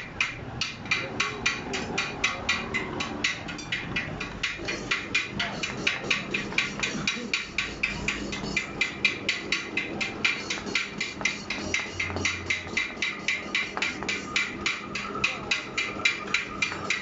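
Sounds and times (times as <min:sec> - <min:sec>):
hammer tapping on metal: 0:00.0 - 0:17.0.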